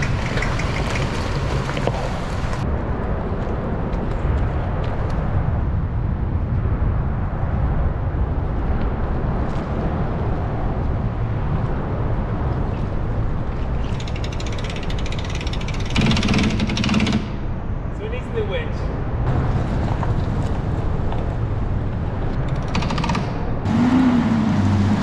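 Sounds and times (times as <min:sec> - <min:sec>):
wind rumble: 0:00.0 - 0:25.0.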